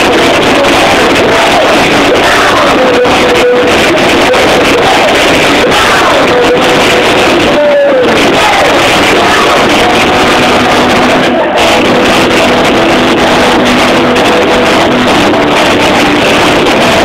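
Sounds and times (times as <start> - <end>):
distorted punk rock band: 0.0 - 17.0
held guitar notes: 0.0 - 17.0.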